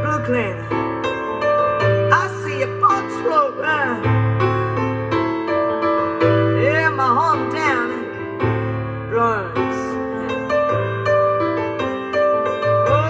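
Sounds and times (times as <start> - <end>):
piano ballad over loudspeakers: 0.0 - 13.0.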